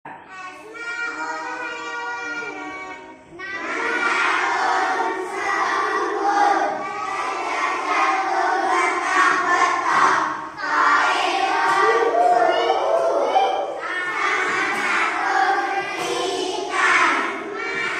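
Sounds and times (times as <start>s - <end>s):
children chanting in unison: 0.2s - 17.9s.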